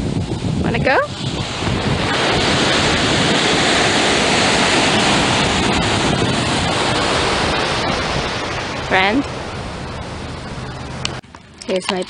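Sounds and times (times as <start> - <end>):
surf washing onto beach: 0.0 - 12.0
wind on microphone: 0.0 - 12.0.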